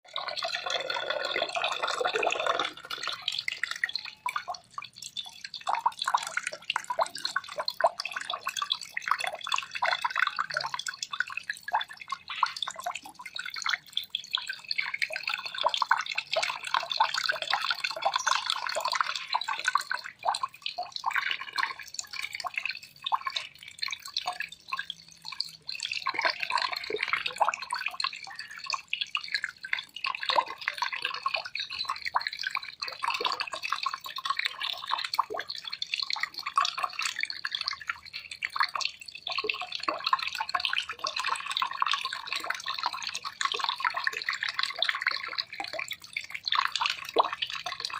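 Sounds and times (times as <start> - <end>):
water trickling and dripping: 0.0 - 47.9.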